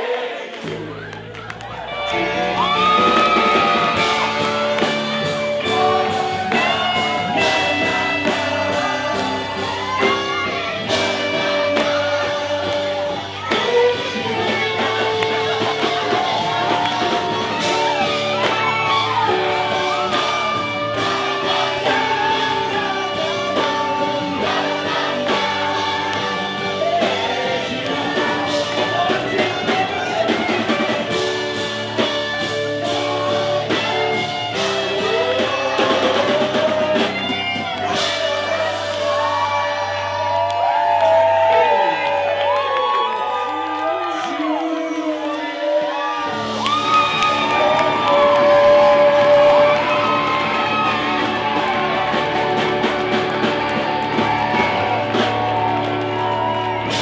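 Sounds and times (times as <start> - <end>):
person singing: 0.0 - 40.3, 43.5 - 57.0
guitar and other instruments: 0.6 - 43.5, 45.9 - 57.0.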